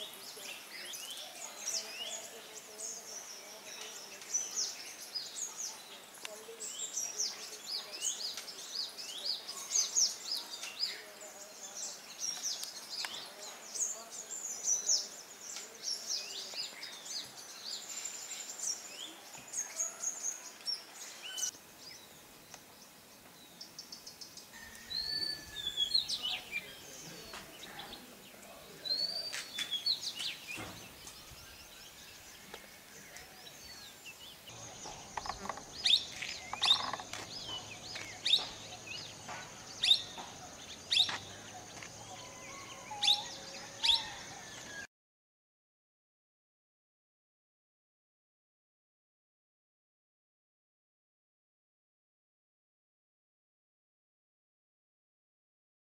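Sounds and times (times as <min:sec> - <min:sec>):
wild birds chirping and calling: 0:00.0 - 0:44.9.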